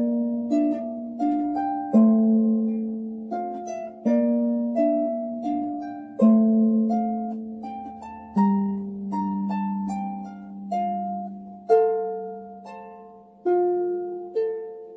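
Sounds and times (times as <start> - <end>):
harp plucked melody: 0.0 - 14.9.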